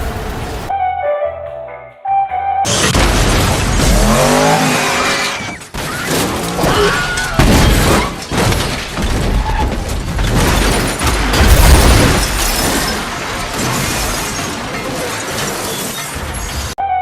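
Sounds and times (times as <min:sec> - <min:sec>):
crashing and shattering: 0:02.7 - 0:16.8.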